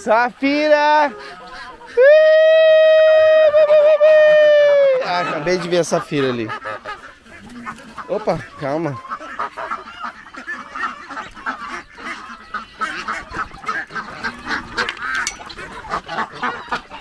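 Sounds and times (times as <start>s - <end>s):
ducks and geese honking and quacking: 0.0s - 17.0s.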